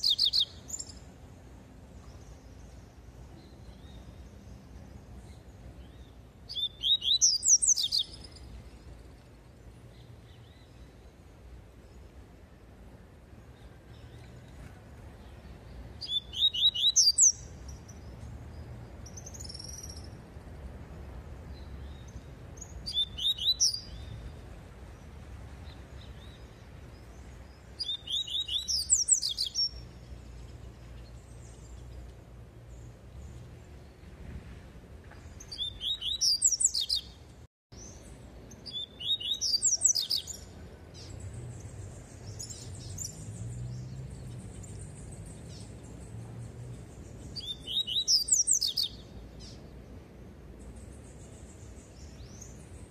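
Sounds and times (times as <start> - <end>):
bird chirping song: 0.0 - 20.4, 21.2 - 52.9.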